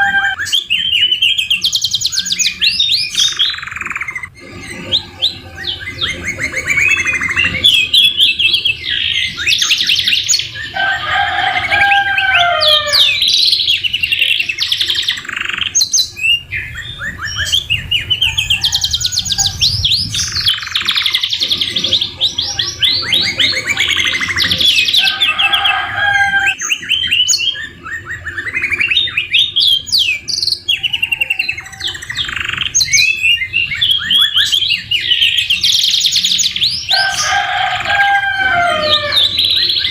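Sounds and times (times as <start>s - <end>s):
canaries singing trills and whistles: 0.0s - 39.9s.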